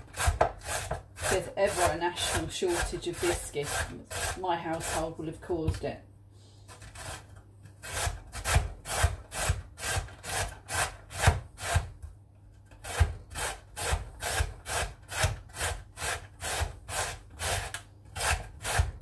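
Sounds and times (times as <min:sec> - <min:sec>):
carrot rasping on grater: 0:00.0 - 0:05.4, 0:06.7 - 0:11.9, 0:12.7 - 0:19.0.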